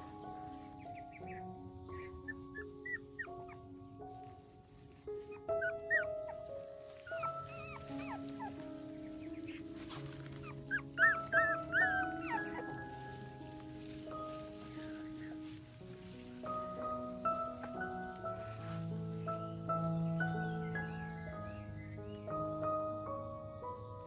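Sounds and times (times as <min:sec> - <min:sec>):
puppies whimpering and squeaking: 0:00.0 - 0:22.7
soft background music: 0:00.0 - 0:24.0.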